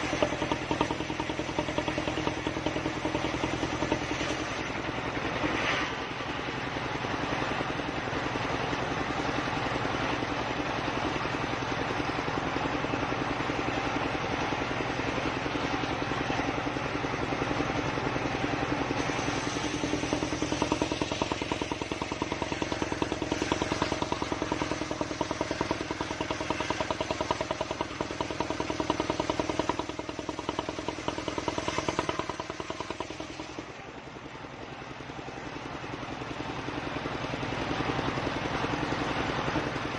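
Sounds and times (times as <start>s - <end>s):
engine running with fast pulse: 0.0s - 39.9s.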